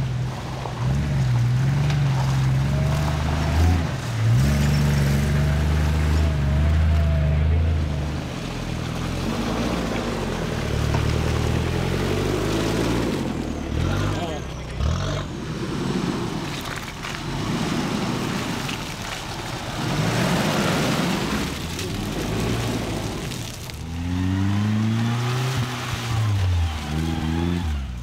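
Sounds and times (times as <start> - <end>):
truck engine under load: 0.0 - 28.0.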